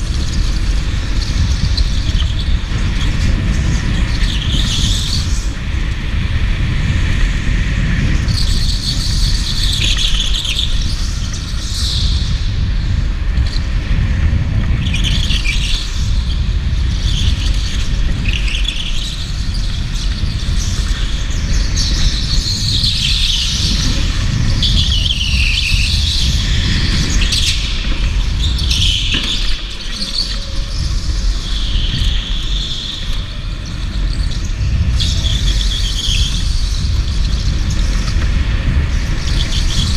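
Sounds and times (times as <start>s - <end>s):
go-kart tyres squealing: 0.0s - 39.9s
low rumble of kart running: 0.0s - 39.9s.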